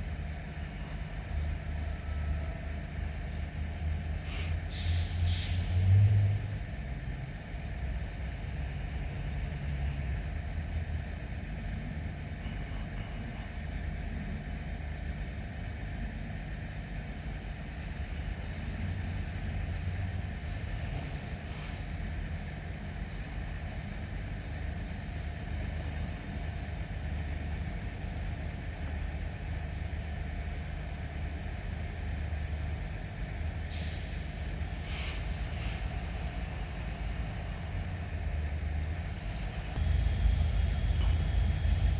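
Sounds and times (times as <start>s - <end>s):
diesel locomotive engine droning: 0.0s - 41.9s.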